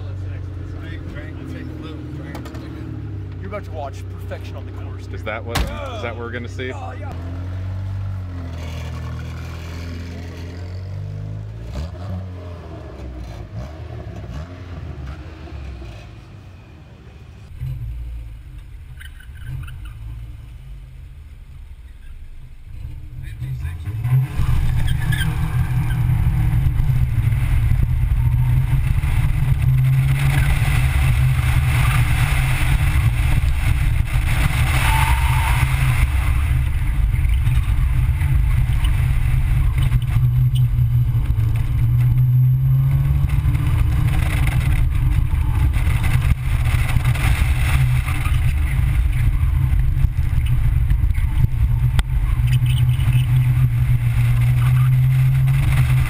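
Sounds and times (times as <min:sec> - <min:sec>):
car engine under full throttle: 0:00.0 - 0:16.4, 0:17.4 - 0:56.0.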